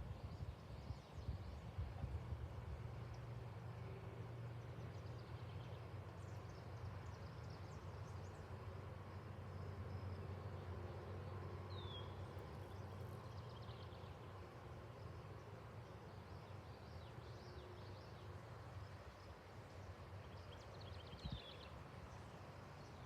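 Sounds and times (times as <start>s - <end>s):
distant locomotive drone: 0.0s - 23.0s.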